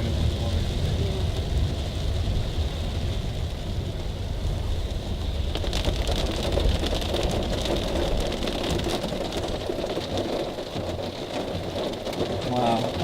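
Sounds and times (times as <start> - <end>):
car engine and road rumble: 0.0 - 13.0
water splashing on car: 0.0 - 13.0.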